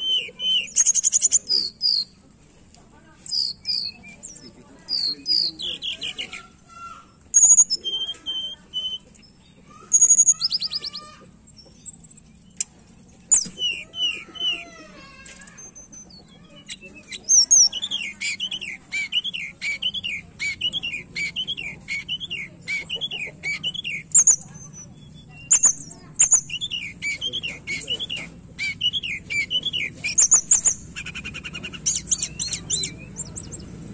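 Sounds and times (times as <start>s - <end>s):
bird whistles and trills: 0.0s - 2.2s, 3.2s - 33.9s.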